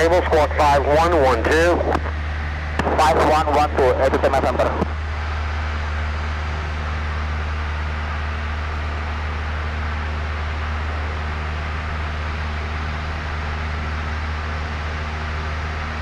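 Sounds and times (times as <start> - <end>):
airplane engine and propeller hum: 0.0 - 16.0.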